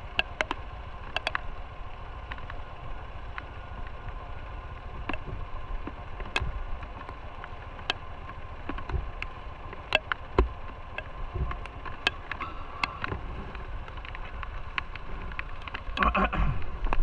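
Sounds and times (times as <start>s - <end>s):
motorcycle rumble: 0.0s - 17.0s
sharp ticks and clicks: 0.0s - 17.0s.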